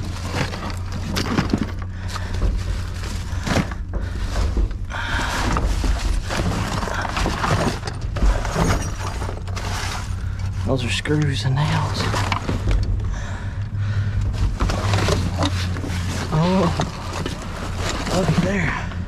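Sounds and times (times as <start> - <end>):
tools clattering and scraping: 0.0 - 13.1, 14.1 - 19.0
low hum: 0.0 - 19.0.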